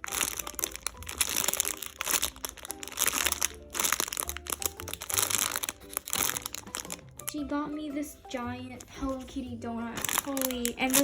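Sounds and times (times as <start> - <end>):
plastic packaging crinkling: 0.0 - 7.4, 8.8 - 11.0.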